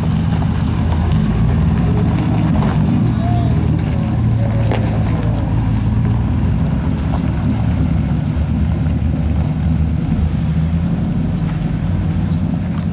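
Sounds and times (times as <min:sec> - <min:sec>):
truck engine running at low revs: 0:00.0 - 0:12.9.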